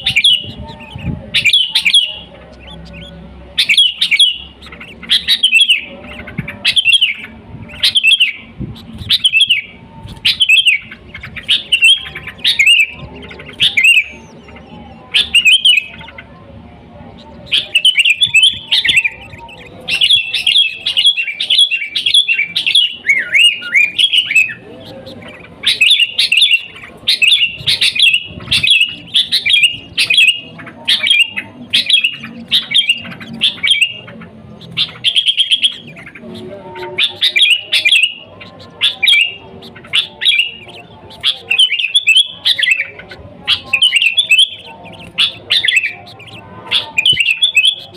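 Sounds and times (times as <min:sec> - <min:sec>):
bulbul singing whistled phrases: 0:00.0 - 0:47.9.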